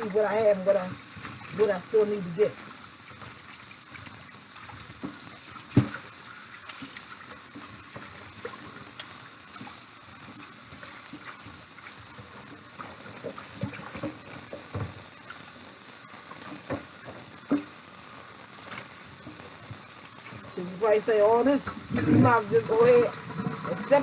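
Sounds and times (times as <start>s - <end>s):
tap water running into sink: 0.0s - 24.0s.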